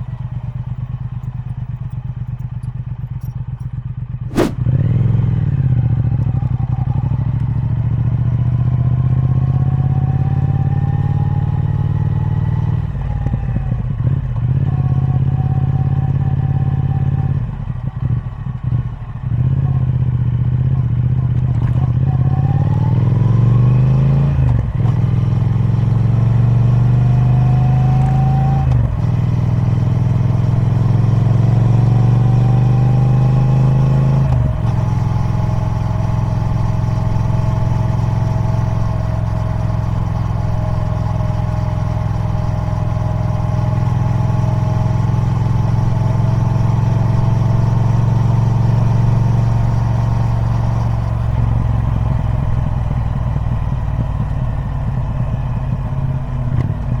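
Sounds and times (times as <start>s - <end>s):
motorcycle engine accelerating: 4.0s - 57.0s.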